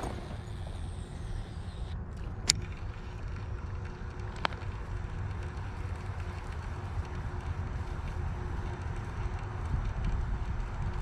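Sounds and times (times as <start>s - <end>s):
fishing reel whirring: 0.0s - 11.0s
wind on microphone: 0.0s - 11.0s.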